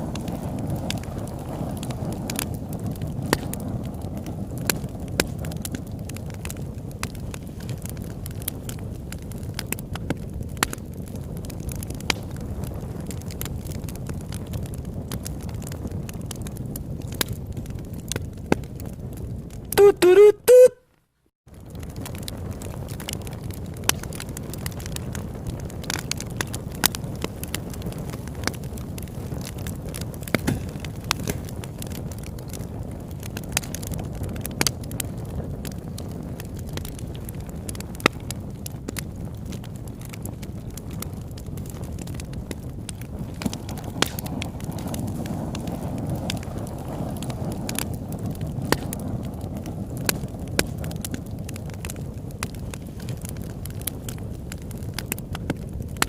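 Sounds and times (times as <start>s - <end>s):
low rumble of flames: 0.0s - 19.8s, 21.0s - 56.0s
campfire crackling: 0.0s - 56.0s.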